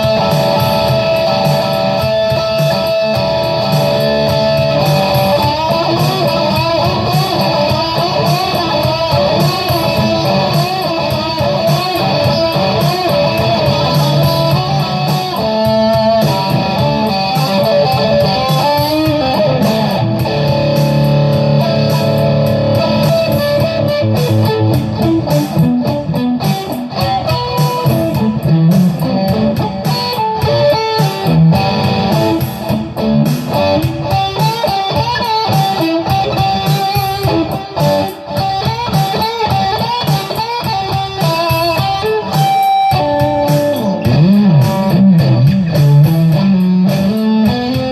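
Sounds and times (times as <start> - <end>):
electric guitar lead lines: 0.0 - 47.9.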